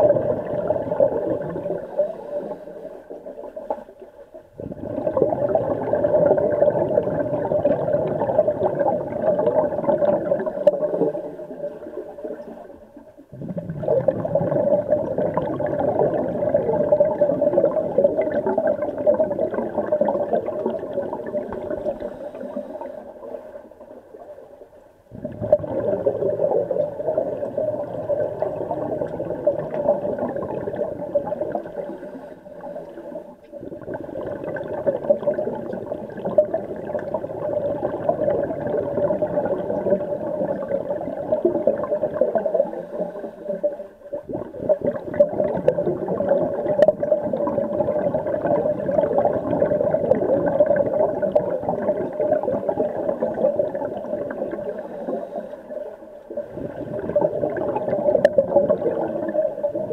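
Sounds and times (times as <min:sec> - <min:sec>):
underwater regulator bubbling: 0:00.0 - 0:59.9.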